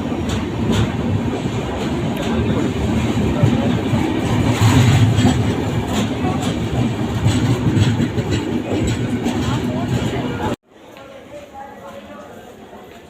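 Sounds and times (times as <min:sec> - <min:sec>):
train rumbling: 0:00.0 - 0:10.6
wheels clicking over rails: 0:00.0 - 0:10.6.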